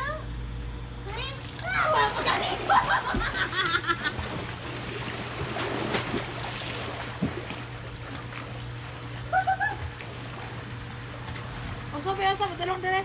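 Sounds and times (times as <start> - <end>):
swimmers splashing: 1.4 - 12.6.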